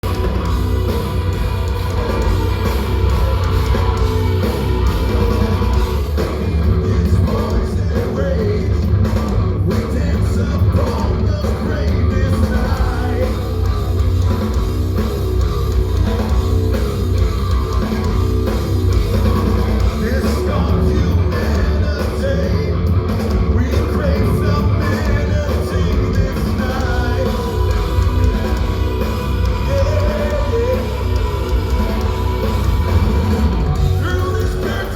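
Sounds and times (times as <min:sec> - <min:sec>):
metal band playing live: 0:00.0 - 0:34.9.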